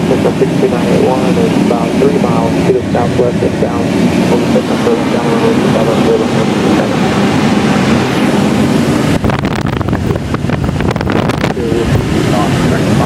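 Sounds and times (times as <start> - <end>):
airflow rushing around cockpit: 0.0 - 13.0
wind buffeting microphone: 0.0 - 13.0.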